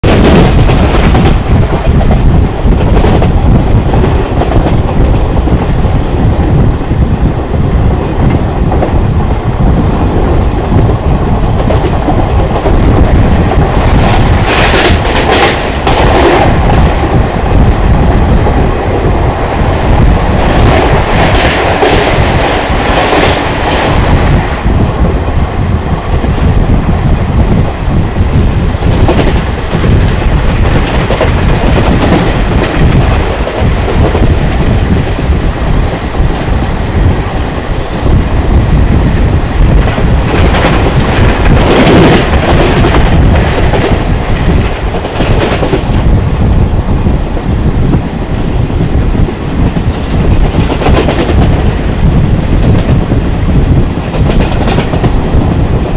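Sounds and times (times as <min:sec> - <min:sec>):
train wheels and wind rushing: 0:00.0 - 0:55.9.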